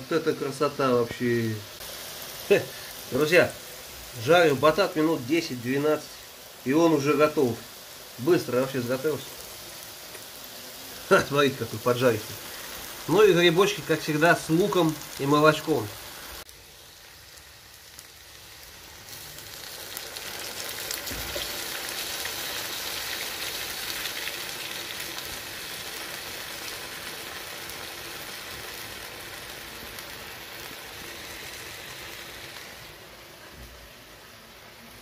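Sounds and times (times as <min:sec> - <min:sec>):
vegetables sizzling in a pan: 0:00.0 - 0:35.0.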